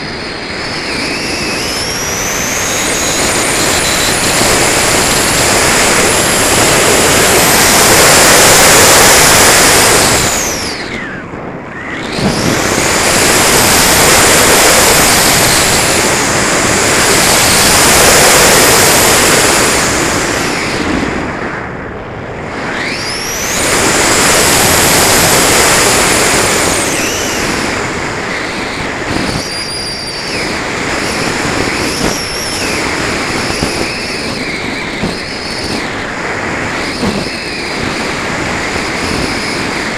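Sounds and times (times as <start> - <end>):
air rushing past glider: 0.0 - 39.9
high whine: 0.0 - 39.9.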